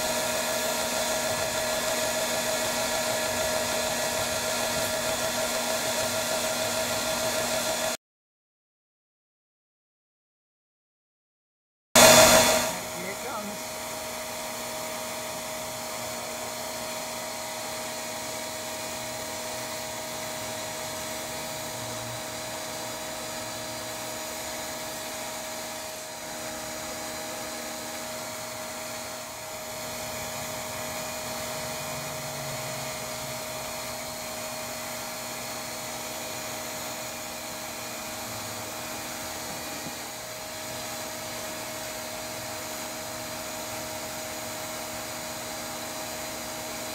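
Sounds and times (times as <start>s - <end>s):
vacuum motor whooshing hum: 0.0s - 8.0s, 12.0s - 46.9s.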